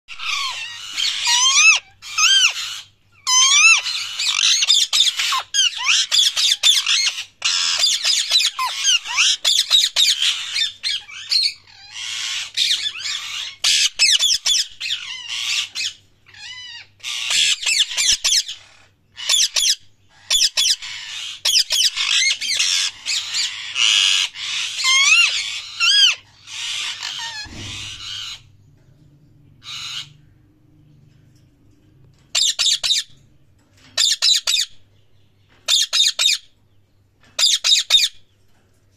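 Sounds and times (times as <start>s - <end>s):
parakeet chirping and squawking: 0.1s - 28.6s, 29.5s - 30.4s, 31.8s - 38.7s.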